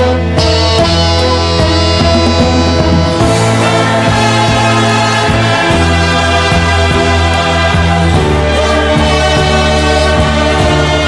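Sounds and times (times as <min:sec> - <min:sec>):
orchestral music with brass: 0:00.0 - 0:11.0.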